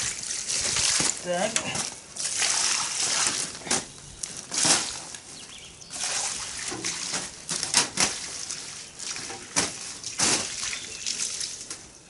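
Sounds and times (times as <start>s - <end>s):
water splashing on concrete: 0.0s - 3.9s, 4.5s - 5.2s, 5.9s - 11.9s.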